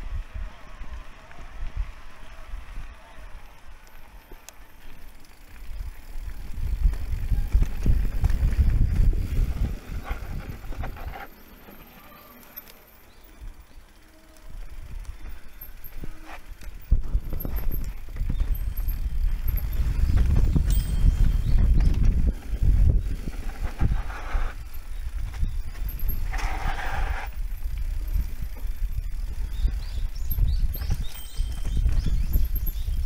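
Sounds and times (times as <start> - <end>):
bike rattling over bumps: 0.0 - 33.0
bike tyre rumble on dirt: 0.0 - 33.0.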